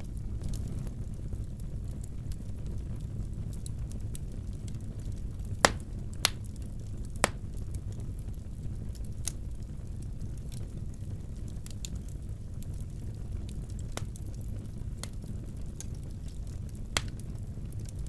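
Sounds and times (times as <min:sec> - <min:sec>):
faint fire crackles: 0:00.0 - 0:18.0
sharp fire cracks: 0:00.0 - 0:18.0
wood fire rumbling: 0:00.0 - 0:18.0.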